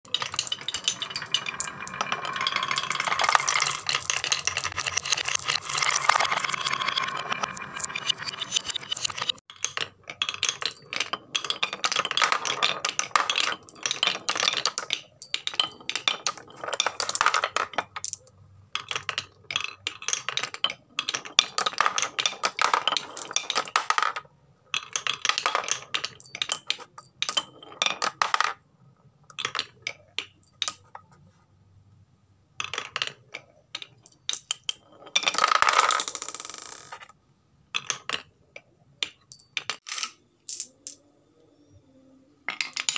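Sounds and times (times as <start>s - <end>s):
marbles rolling on wooden tracks: 0.1s - 28.6s, 32.6s - 38.3s, 42.5s - 42.9s.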